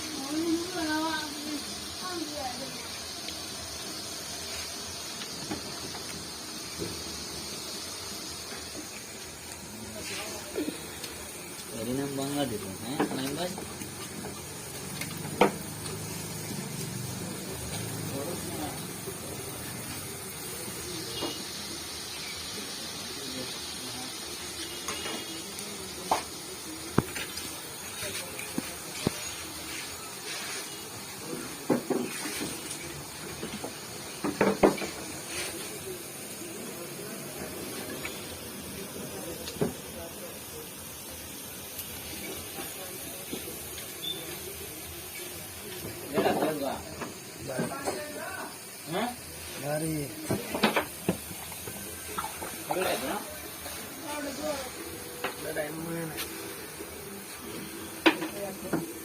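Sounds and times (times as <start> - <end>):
batter frying in hot oil: 0.0 - 59.0.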